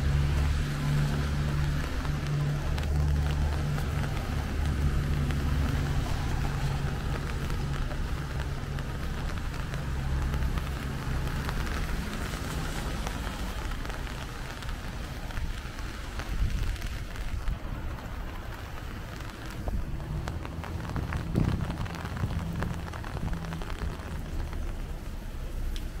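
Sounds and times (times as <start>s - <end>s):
passing traffic: 0.0s - 26.0s
rain pattering on an umbrella: 0.0s - 26.0s
wind rumble: 0.0s - 26.0s.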